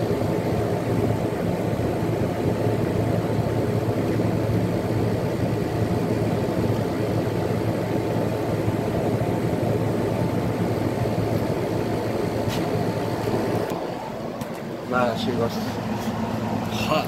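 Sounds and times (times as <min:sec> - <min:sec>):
air conditioner fan rush: 0:00.0 - 0:17.0
low compressor hum: 0:00.0 - 0:17.0.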